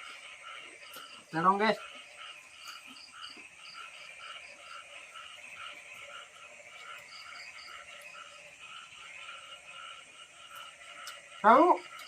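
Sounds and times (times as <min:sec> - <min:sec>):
frogs croaking: 0:00.0 - 0:12.0
night animals background: 0:00.0 - 0:12.0.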